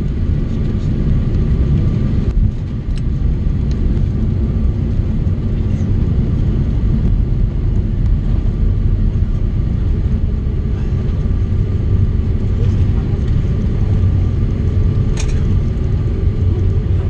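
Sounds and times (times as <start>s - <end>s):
low rumble of engines and wheels: 0.0s - 17.0s.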